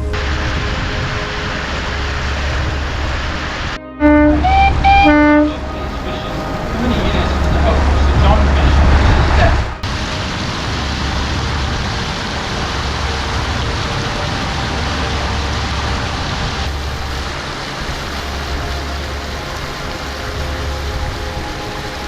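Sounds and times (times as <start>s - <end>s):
low engine rumble: 0.0s - 22.0s
wind and water rushing: 0.0s - 22.0s.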